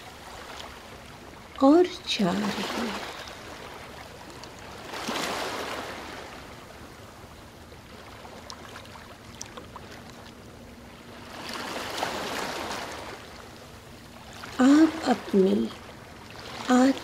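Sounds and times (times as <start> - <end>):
ocean waves washing in: 0.0 - 17.0.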